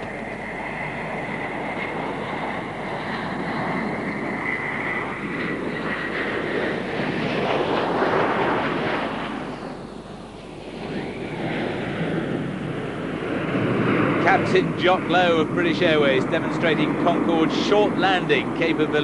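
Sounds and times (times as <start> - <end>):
jet aircraft landing whine: 0.0 - 19.0.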